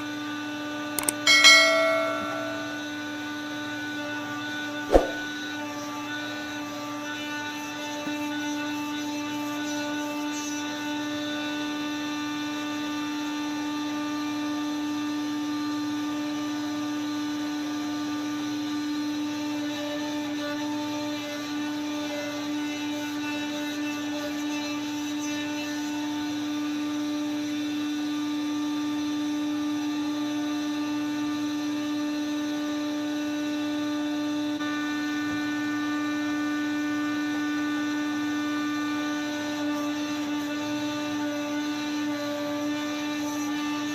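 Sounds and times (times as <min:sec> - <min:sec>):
machinery humming and whining: 0:00.0 - 0:43.9.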